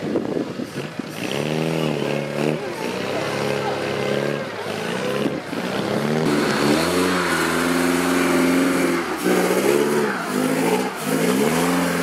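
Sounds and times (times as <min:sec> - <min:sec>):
car engine revving hard: 0:00.6 - 0:12.0.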